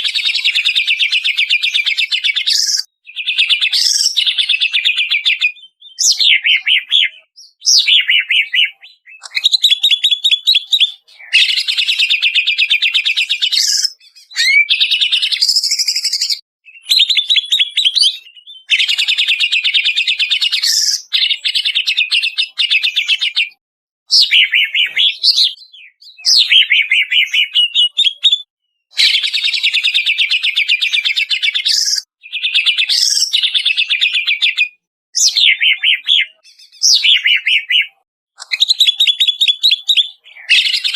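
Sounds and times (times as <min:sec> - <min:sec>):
bird singing rattling phrases: 0:00.0 - 0:40.9.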